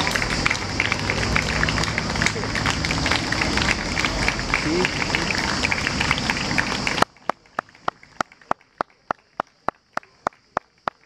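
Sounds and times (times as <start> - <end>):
audience applause: 0.0 - 11.0
audience chatter: 0.0 - 11.0.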